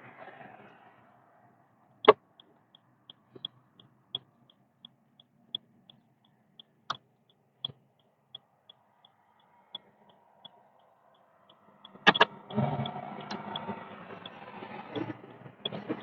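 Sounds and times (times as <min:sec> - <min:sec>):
turn signal ticking: 0:00.0 - 0:16.0.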